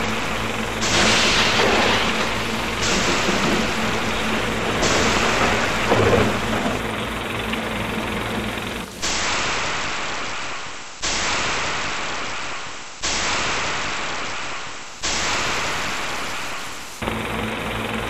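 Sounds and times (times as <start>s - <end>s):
burst of static-like hiss: 0.0s - 17.8s.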